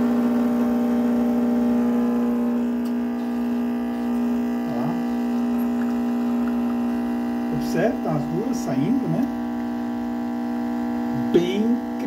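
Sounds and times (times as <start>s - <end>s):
espresso machine pump buzzing: 0.0s - 12.0s.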